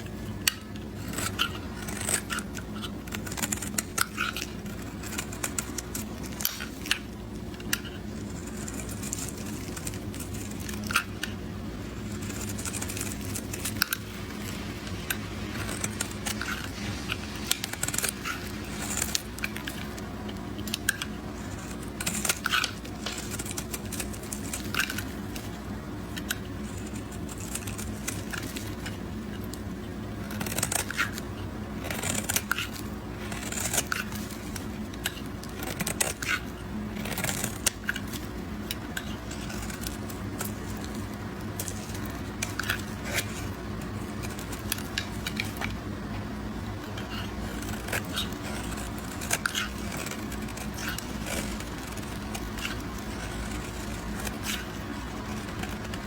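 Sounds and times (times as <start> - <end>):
blade cutting through soap: 0.0 - 45.8, 46.5 - 56.0.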